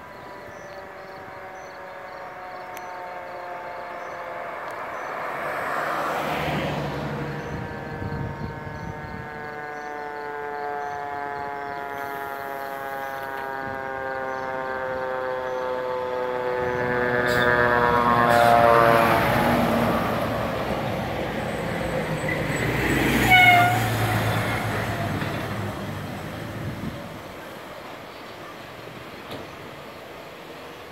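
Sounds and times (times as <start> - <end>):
fire engine air horn: 0.0 - 28.4
truck engine rumble: 0.0 - 30.9.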